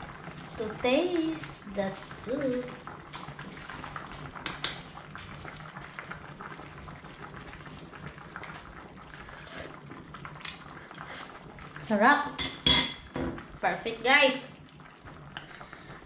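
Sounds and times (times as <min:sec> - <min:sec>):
soup bubbling in pot: 0:00.0 - 0:16.0.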